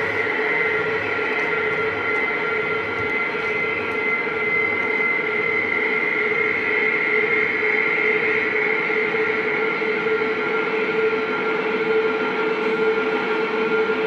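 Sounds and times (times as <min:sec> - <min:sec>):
ambient drone with held tones: 0:00.0 - 0:14.0.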